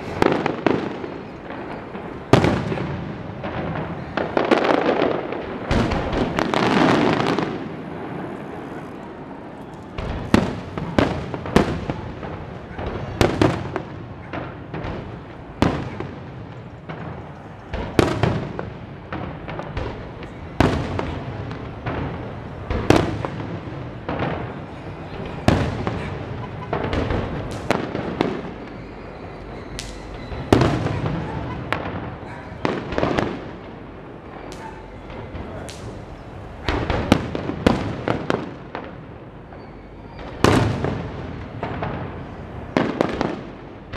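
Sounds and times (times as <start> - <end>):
fireworks bursting with bangs: 0.0 - 43.9.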